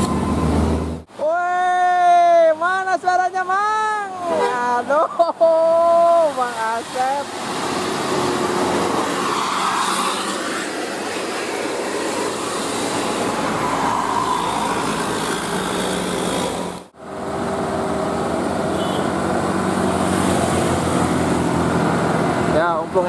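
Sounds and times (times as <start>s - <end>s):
buses passing: 0.0s - 1.1s, 5.4s - 23.0s.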